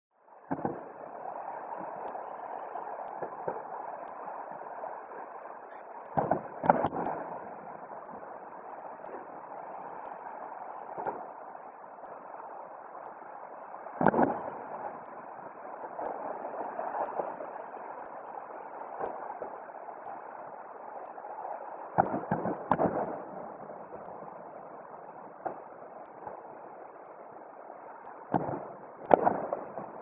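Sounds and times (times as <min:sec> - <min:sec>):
steady background hiss: 0:00.2 - 0:30.0
distant fireworks booms: 0:00.3 - 0:30.0.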